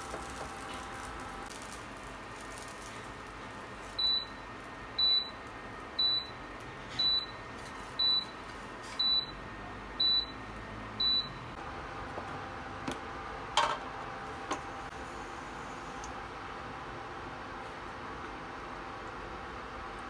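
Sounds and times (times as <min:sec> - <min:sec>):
induction cooktop beeping: 0:00.0 - 0:16.2.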